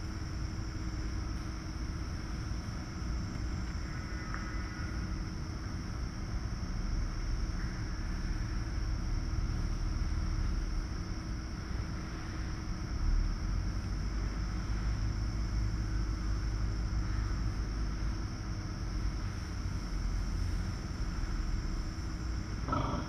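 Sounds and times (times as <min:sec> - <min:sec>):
faint constant tone: 0:00.0 - 0:23.0
low mechanical hum and hiss: 0:00.0 - 0:23.0.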